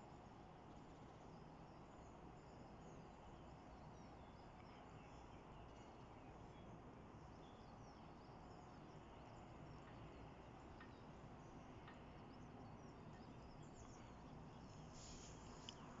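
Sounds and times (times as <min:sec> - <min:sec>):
distant birds chirping: 0:00.1 - 0:16.0.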